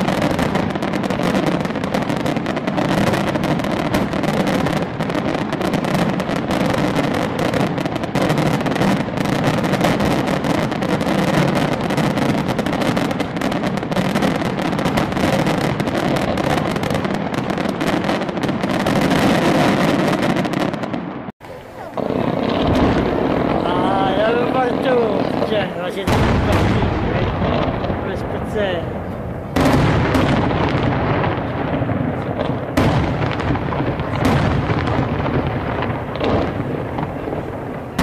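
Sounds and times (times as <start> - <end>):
fireworks crackling and bursting: 0.0 - 38.0.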